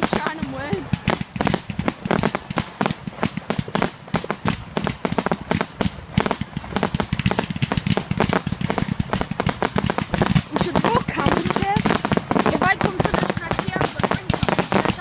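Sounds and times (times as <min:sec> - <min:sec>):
crowd din: 0:00.0 - 0:15.0
firecrackers popping: 0:00.0 - 0:15.0.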